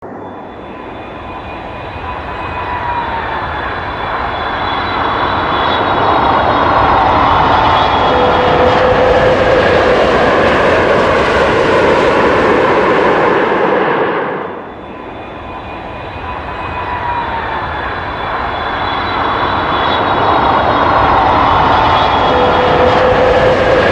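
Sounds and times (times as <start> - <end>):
airplane engine roar: 0.0 - 23.9.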